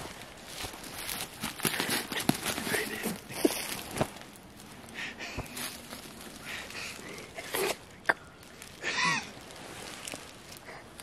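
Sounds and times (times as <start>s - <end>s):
footsteps through dry leaves: 0.0s - 7.8s, 8.4s - 10.7s.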